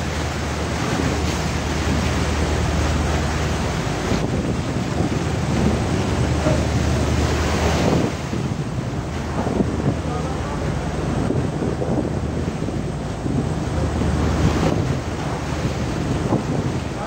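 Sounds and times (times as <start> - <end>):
sea washing against hull: 0.0 - 17.0
wind buffeting microphone: 0.0 - 17.0.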